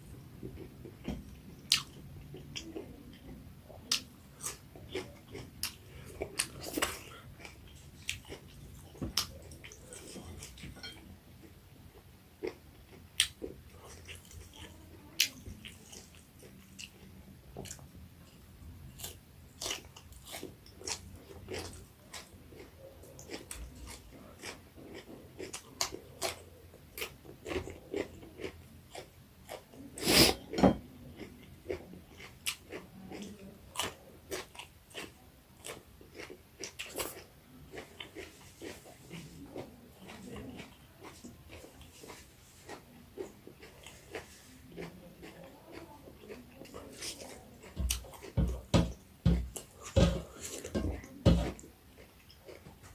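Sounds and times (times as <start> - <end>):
person chewing crunchy food: 0.4 - 52.9.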